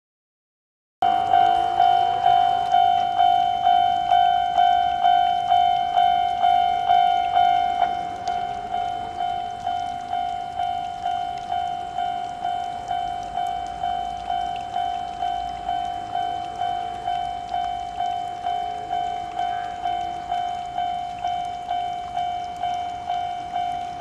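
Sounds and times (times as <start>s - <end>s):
level crossing alarm bell: 1.0s - 24.0s.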